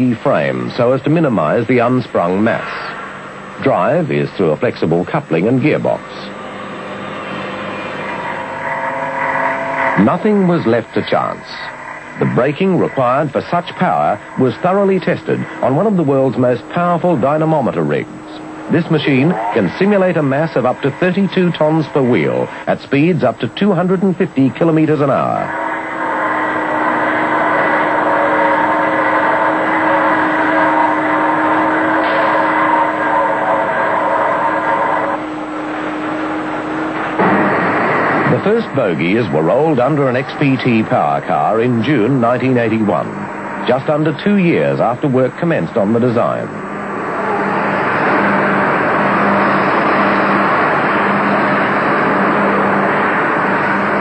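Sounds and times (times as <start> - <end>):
low machinery hum: 0.0 - 54.0
machinery rushing noise: 0.0 - 54.0
mechanical rig spinning with low drone: 1.2 - 54.0.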